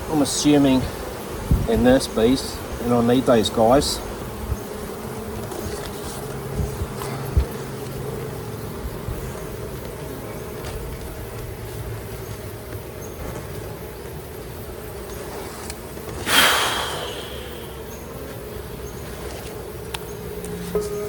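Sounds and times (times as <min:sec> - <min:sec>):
honeybee colony humming: 0:00.0 - 0:21.0.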